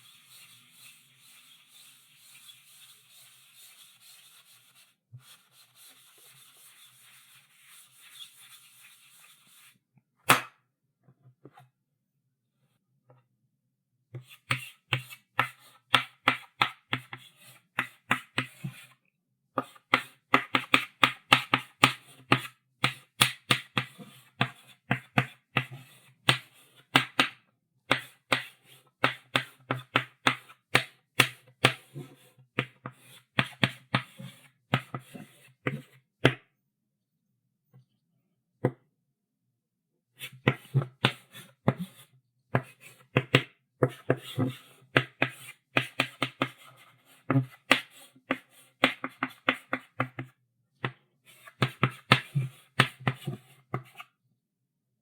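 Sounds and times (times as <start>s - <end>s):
chalk tapping and scratching on blackboard: 0.0s - 9.8s, 14.2s - 19.0s, 19.6s - 36.4s, 40.2s - 54.1s.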